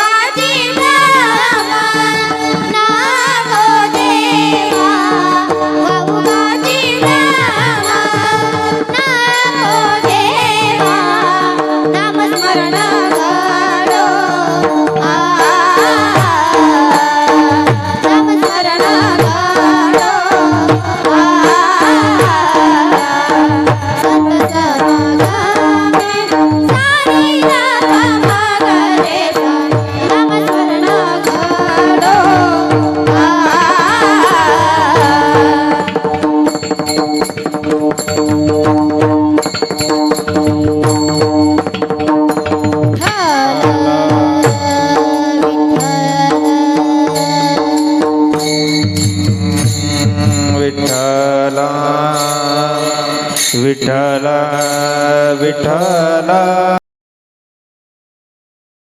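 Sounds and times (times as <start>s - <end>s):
high ringing strikes: 0.0s - 56.0s
tabla rhythm: 0.0s - 56.8s.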